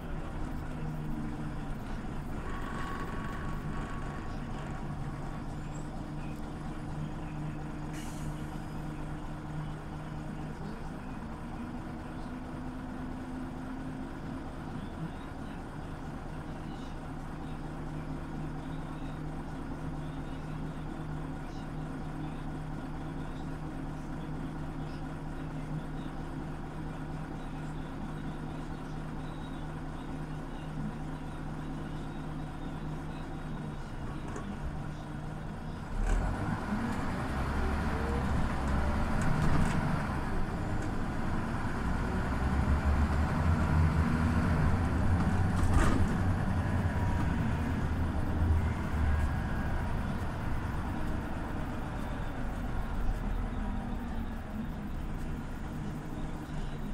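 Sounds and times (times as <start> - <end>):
bus engine humming: 0.0 - 56.9.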